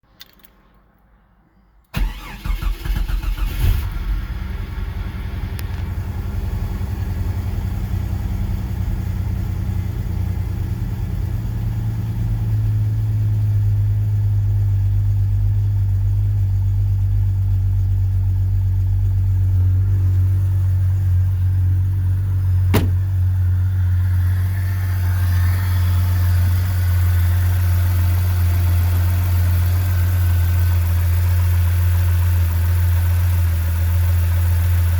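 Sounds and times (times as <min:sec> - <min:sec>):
car engine starting and idling: 0:01.9 - 0:34.9.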